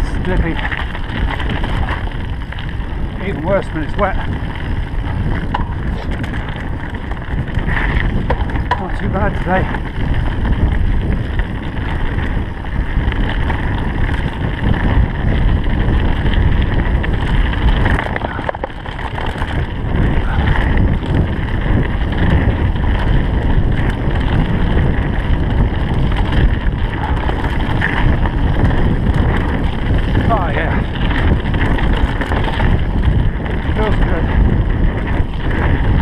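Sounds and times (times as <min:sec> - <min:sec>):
bike tyres on dirt and stone: 0:00.0 - 0:36.0
wind buffeting microphone: 0:00.0 - 0:36.0.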